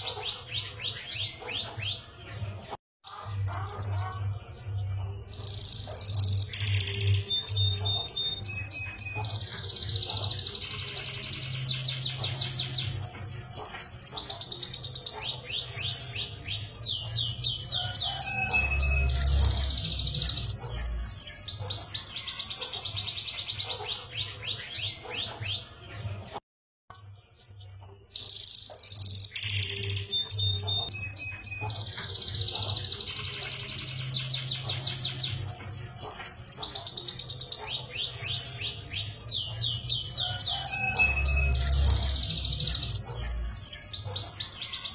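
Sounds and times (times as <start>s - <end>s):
canary singing trills: 0.0s - 26.3s, 26.9s - 44.9s.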